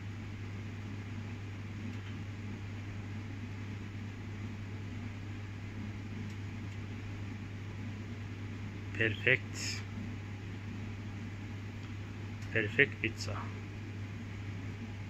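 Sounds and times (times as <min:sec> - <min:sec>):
appliance fan humming: 0:00.0 - 0:15.0.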